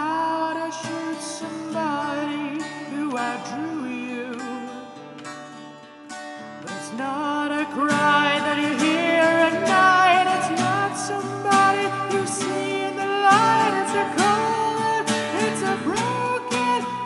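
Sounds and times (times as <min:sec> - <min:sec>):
person singing: 0:00.0 - 0:05.2, 0:06.6 - 0:17.0
acoustic guitar: 0:00.0 - 0:17.0.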